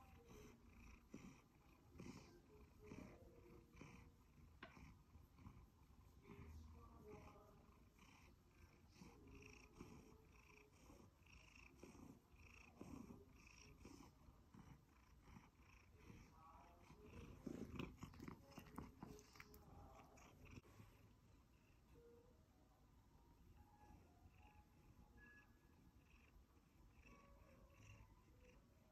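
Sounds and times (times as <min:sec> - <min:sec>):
cat purring: 0:00.0 - 0:22.4, 0:23.5 - 0:28.9.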